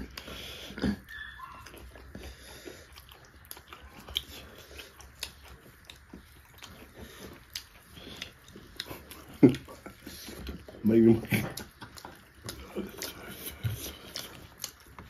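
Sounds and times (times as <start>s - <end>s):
chewing and wet mouth smacks: 0.0s - 15.0s
soft clicks of food mixed by hand: 1.0s - 15.0s.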